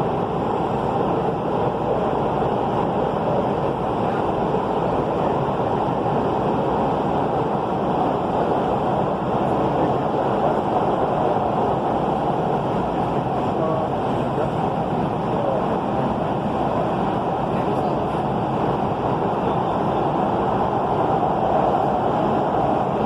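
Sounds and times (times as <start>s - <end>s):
light rail train rolling: 0.0s - 23.0s.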